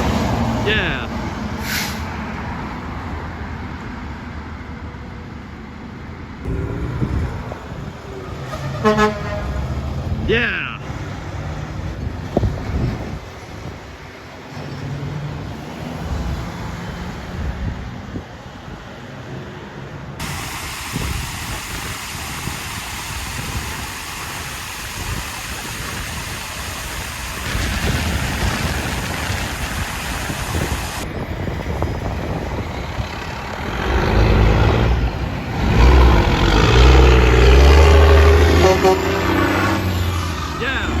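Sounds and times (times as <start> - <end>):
diesel truck engine approaching: 0.0 - 22.3, 23.6 - 41.0
road traffic passing: 0.0 - 41.0.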